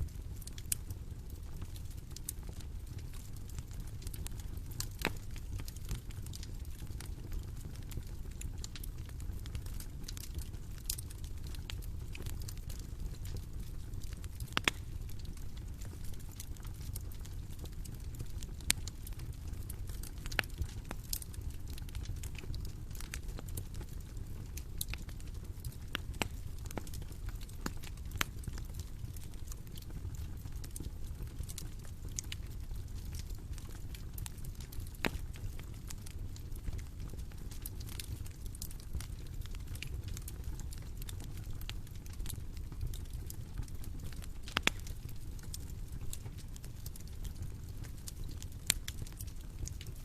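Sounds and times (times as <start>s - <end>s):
bonfire crackling and popping: 0.0s - 50.0s.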